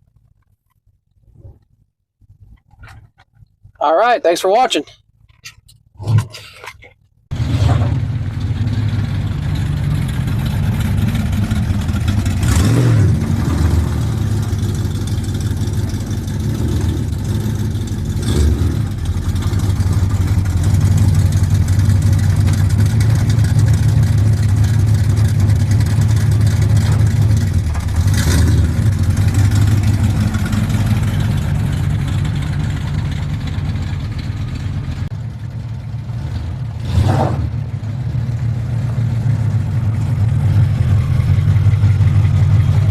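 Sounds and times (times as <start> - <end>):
car engine idling: 7.3 - 42.9.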